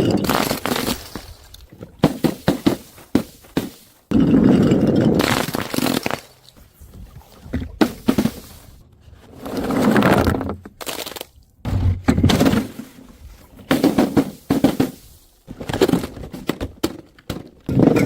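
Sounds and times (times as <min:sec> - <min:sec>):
crunching noise: 0:00.0 - 0:16.4.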